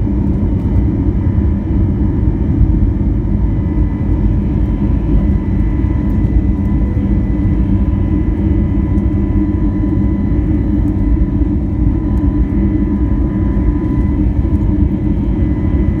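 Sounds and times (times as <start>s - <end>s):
faint steady whine: 0.0s - 16.0s
jet engine low rumble: 0.0s - 16.0s.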